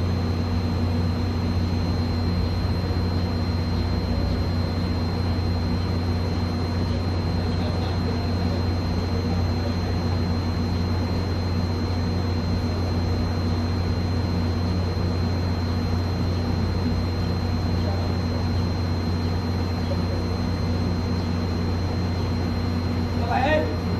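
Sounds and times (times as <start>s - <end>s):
faint high whine: 0.0s - 23.9s
low mechanical hum: 0.0s - 23.9s.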